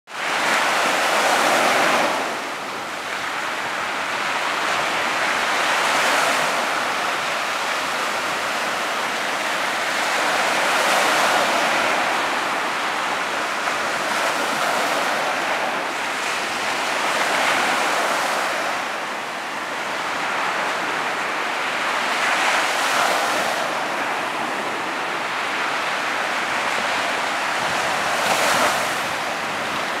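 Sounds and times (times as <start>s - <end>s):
small waves breaking on sand beach: 0.1s - 30.0s.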